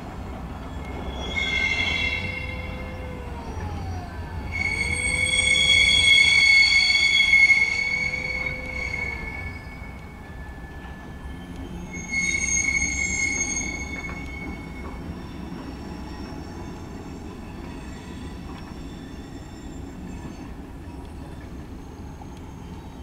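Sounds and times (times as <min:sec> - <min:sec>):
train wheels rumbling on rail: 0:00.0 - 0:23.0
high-pitched wheel squeal: 0:00.5 - 0:21.1.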